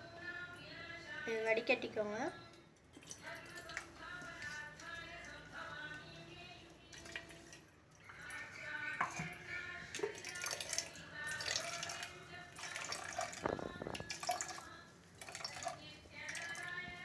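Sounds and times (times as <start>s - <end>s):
juice trickling through strainer: 2.8s - 17.0s.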